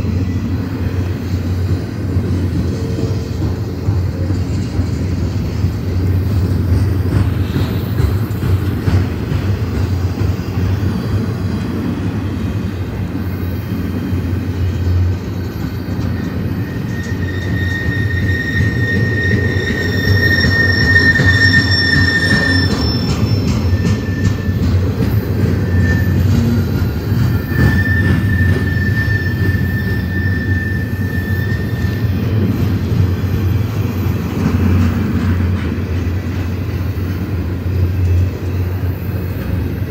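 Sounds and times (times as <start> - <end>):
high wheel squeal: 0.0 - 39.9
steel wheels rumbling on rail: 0.0 - 39.9.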